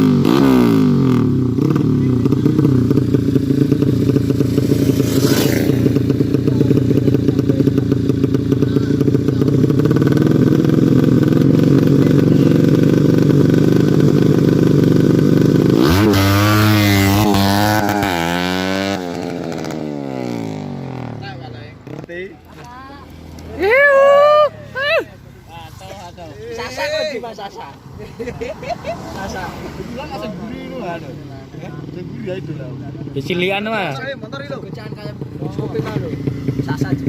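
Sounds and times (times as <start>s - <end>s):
motorcycle engine revving: 0.0s - 26.9s, 27.8s - 37.0s.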